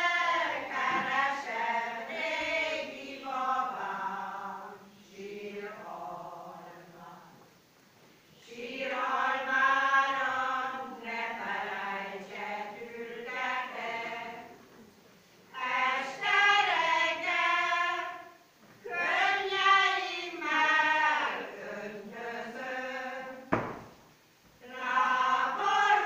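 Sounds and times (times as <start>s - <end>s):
women's choir singing: 0.0s - 7.4s, 8.3s - 24.0s, 24.6s - 26.0s.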